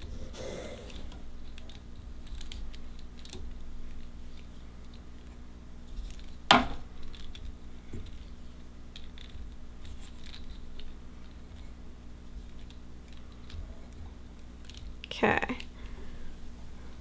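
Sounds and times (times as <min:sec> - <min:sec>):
low steady hum: 0:00.0 - 0:17.0
bobbin ticks and rustles: 0:00.9 - 0:16.0.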